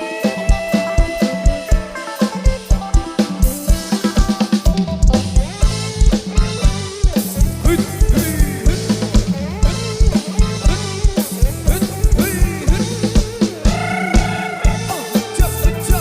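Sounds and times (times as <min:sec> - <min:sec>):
background music with fast drum beat: 0:00.0 - 0:16.0.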